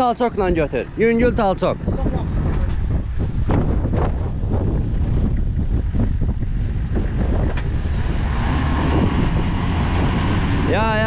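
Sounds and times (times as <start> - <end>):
off-road vehicle engines: 0.0 - 11.0
wind buffeting microphone: 0.0 - 11.0.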